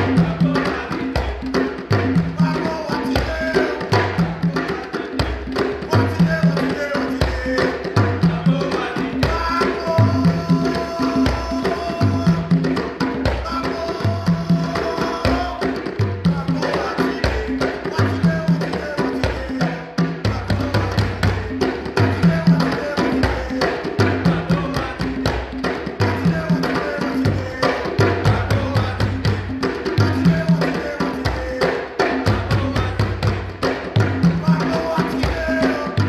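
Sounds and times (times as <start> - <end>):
djembe drumming: 0.0 - 36.0.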